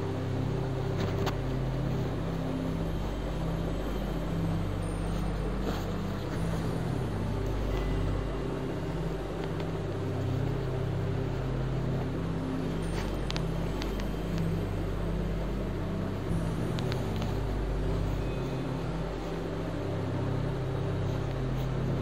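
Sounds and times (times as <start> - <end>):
low mechanical rumble and hum: 0.0 - 22.0.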